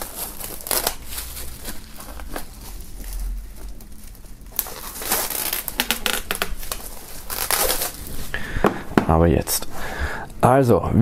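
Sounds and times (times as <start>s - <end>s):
plastic film crinkling: 0.0s - 9.7s.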